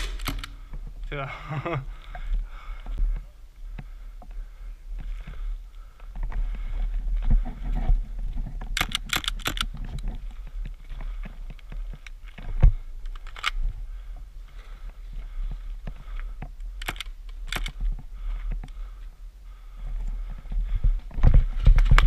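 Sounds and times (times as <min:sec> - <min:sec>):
rustling of movement: 0:00.0 - 0:22.0.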